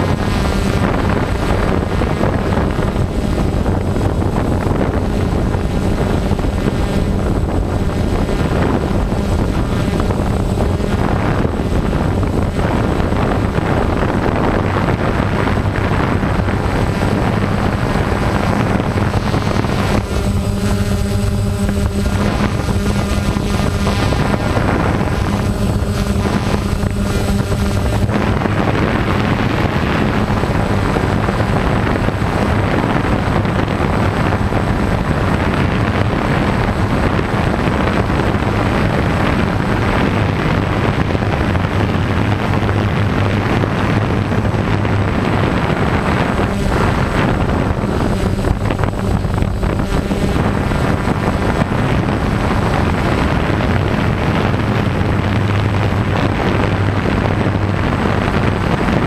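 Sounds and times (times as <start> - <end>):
drone propellers whirring: 0.0 - 59.0
low hum: 0.0 - 59.0
wind on microphone: 0.0 - 59.0.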